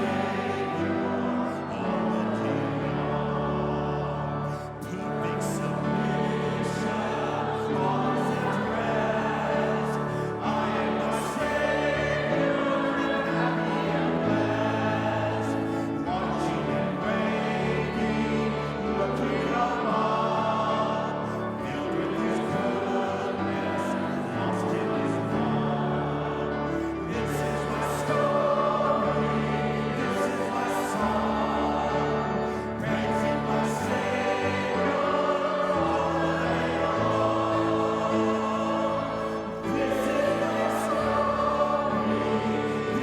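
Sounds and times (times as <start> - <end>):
congregation singing a hymn: 0.0 - 43.0.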